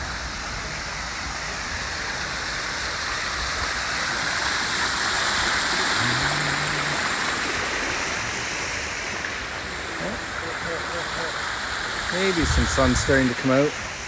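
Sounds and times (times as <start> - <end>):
fountain water splashing into basin: 0.0 - 14.0.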